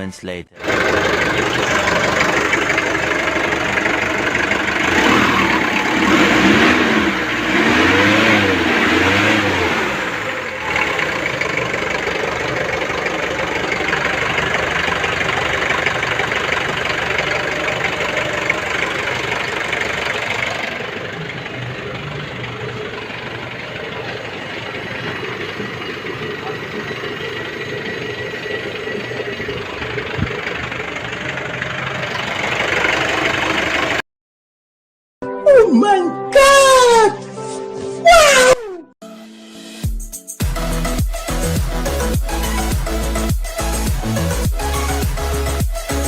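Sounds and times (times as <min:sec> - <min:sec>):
diesel engine revving and idling: 0:00.6 - 0:34.0, 0:40.4 - 0:46.0.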